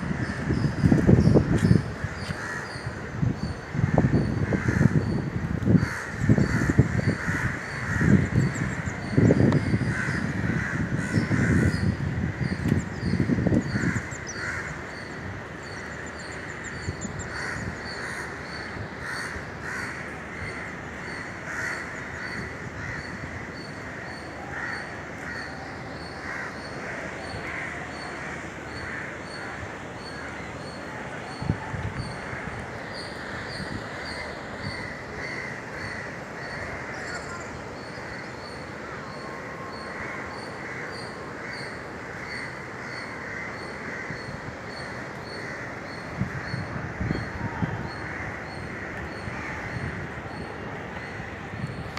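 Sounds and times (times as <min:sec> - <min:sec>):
wind gusts buffeting microphone: 0:00.0 - 0:51.9
crows cawing: 0:02.0 - 0:02.9, 0:03.7 - 0:15.1, 0:17.2 - 0:30.7, 0:32.3 - 0:51.2.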